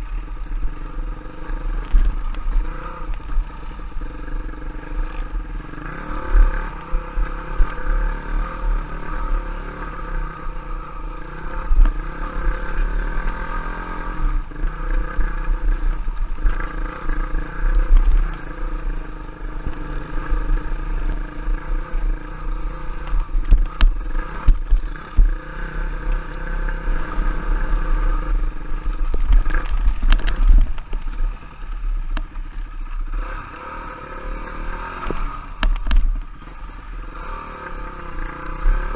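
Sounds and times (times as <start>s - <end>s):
trail bike engine running: 0.0s - 38.9s.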